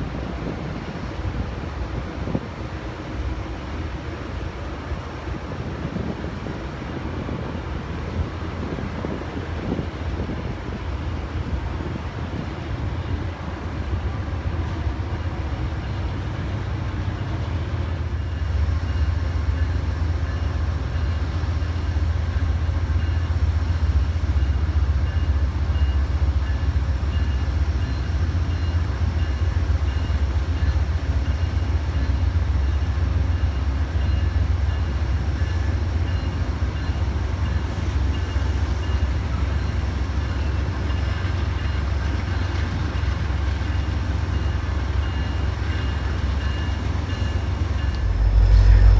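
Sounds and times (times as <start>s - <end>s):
train rumbling by: 0.0s - 48.9s.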